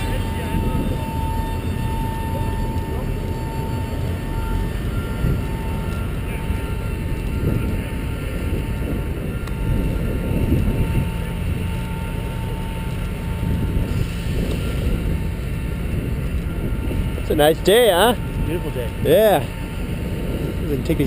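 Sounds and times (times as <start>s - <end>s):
jet engine rumble with whine: 0.0s - 21.0s.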